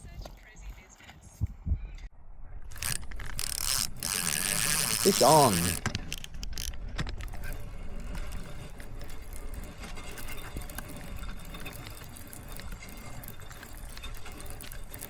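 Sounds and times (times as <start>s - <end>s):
fishing reel whirring and ticking: 2.7s - 15.0s.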